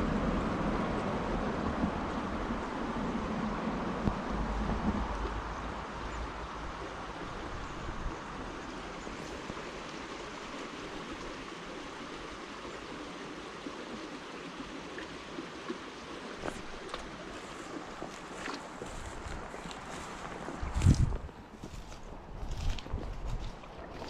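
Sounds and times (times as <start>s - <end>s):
creek water flowing: 0.0s - 24.0s.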